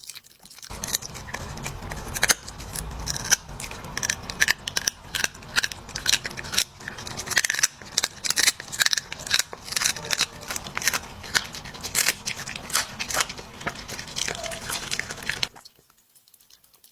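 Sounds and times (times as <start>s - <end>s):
dog crunching food: 0.0s - 16.9s.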